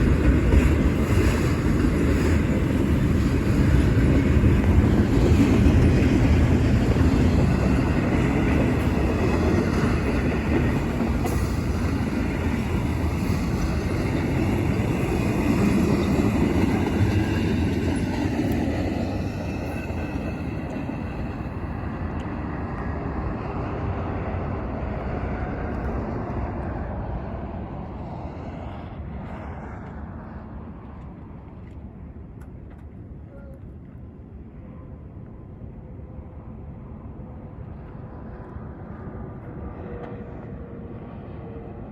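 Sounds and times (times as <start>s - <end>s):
train cars rumbling and rattling: 0.0s - 41.9s.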